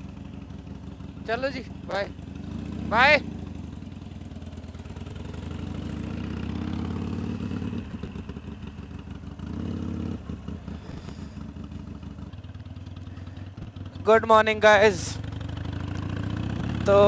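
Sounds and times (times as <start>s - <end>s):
motorcycle engine riding off: 0.0s - 17.0s.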